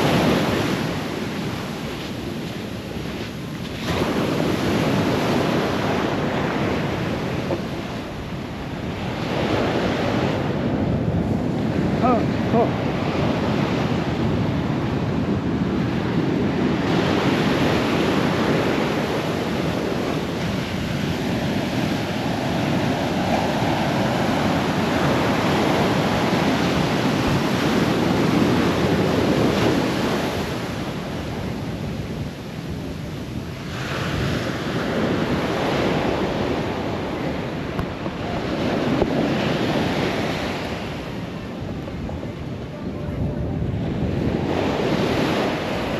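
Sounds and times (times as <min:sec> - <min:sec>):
ocean surf washing on beach: 0:00.0 - 0:45.9
wind buffeting microphone: 0:00.0 - 0:45.9.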